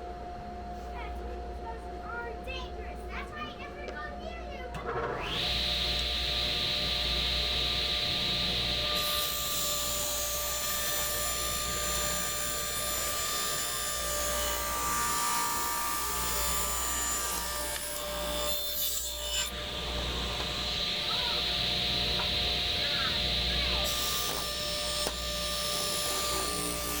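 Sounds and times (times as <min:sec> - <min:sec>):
table saw cutting wood: 0:04.9 - 0:27.0.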